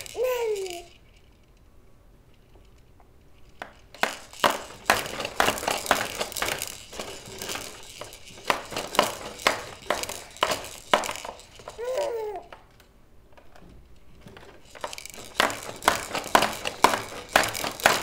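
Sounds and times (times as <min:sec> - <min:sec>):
plastic toy clacking and rattling: 0:00.0 - 0:01.3, 0:02.6 - 0:18.0.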